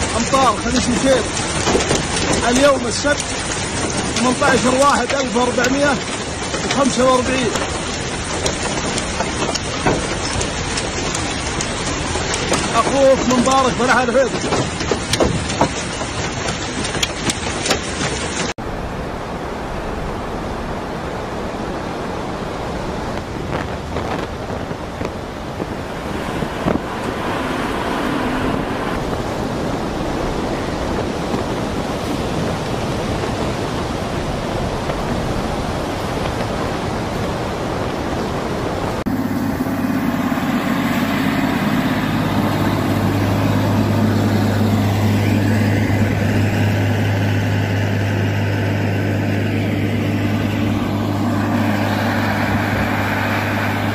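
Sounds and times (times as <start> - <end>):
heavy rain: 0.0 - 53.9
vehicle engine hum: 0.0 - 53.9
wind buffeting microphone: 0.0 - 53.9.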